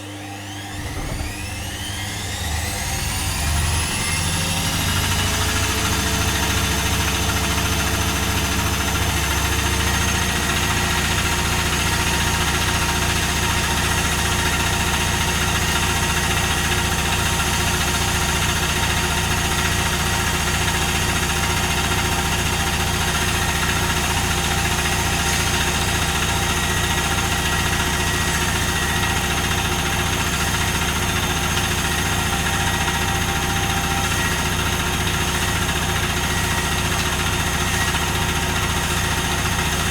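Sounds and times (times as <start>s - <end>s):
washing machine spinning: 0.1s - 39.9s.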